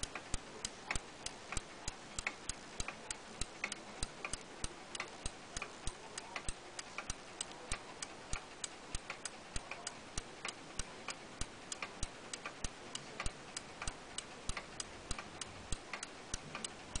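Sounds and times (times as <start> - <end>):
pendulum clock ticking: 0.0 - 17.0.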